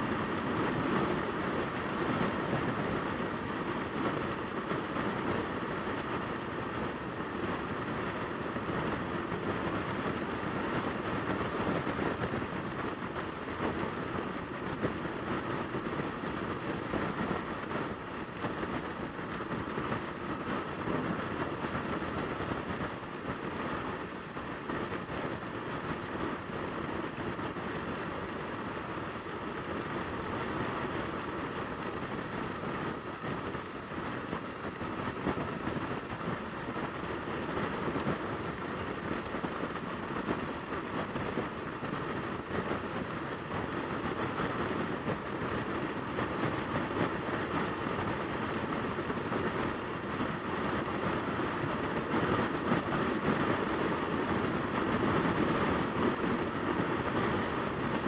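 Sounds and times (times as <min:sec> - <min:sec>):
wind rush over microphone: 0:00.0 - 0:58.0.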